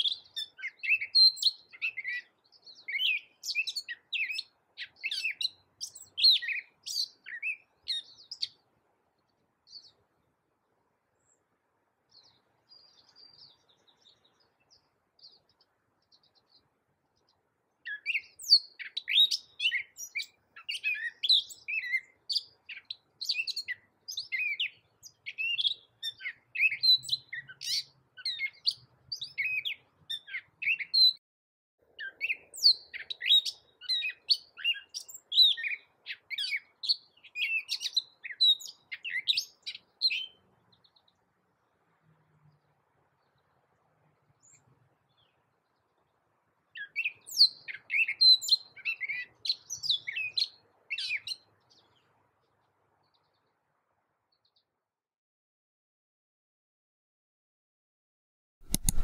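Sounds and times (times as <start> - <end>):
bird singing varied phrases: 0.0 - 10.2, 11.2 - 31.2, 31.9 - 41.8, 44.4 - 53.6.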